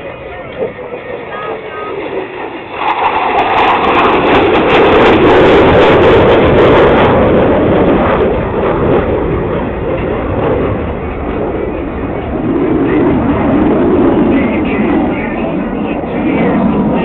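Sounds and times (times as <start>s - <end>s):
jet flying past: 0.0s - 17.0s.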